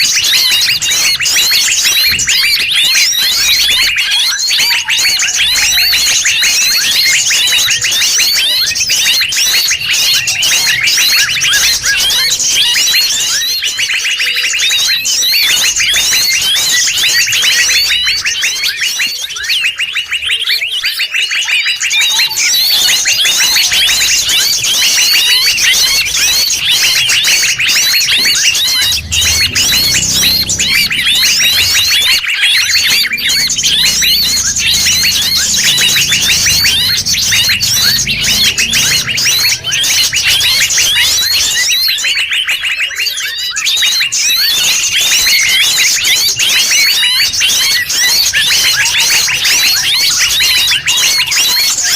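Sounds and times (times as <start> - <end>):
many forest birds chirping: 0.0 - 51.9.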